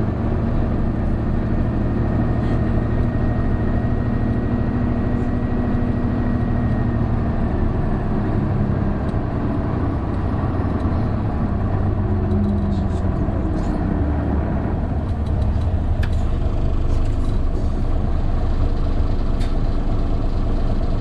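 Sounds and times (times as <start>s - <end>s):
bus diesel engine drumming: 0.0s - 21.0s.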